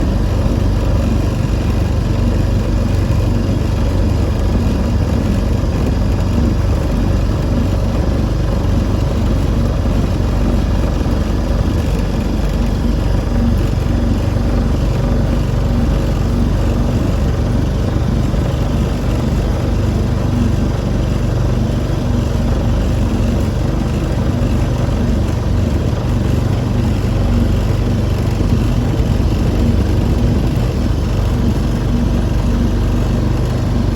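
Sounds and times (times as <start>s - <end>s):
motorboat engine running: 0.0s - 33.9s.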